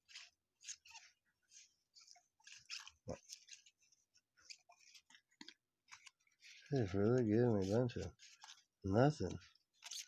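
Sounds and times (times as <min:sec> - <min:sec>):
trading cards rustling: 0:00.0 - 0:10.0.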